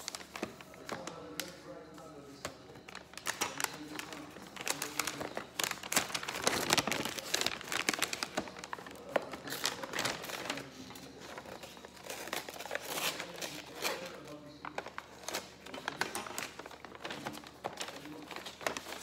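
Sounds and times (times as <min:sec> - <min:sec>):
paper wrapping crinkling: 0:00.0 - 0:19.0.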